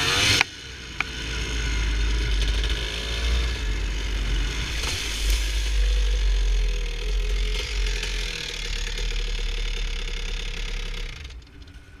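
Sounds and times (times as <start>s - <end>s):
dirt bike engine rumbling: 0.0s - 12.0s.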